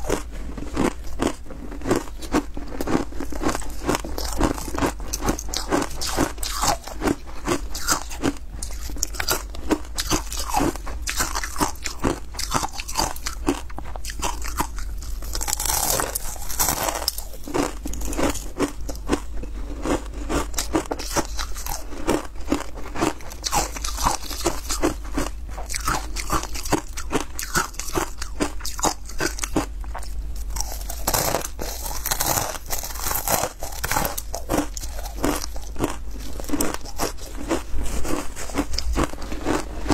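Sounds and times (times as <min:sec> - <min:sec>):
ice cubes crunching while chewed: 0:00.0 - 0:39.9.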